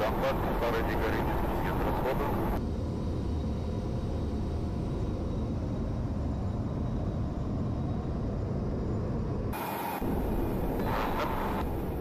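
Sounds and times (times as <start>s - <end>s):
aircraft engine and airflow rumble: 0.0s - 12.0s
faint steady whine: 0.0s - 12.0s.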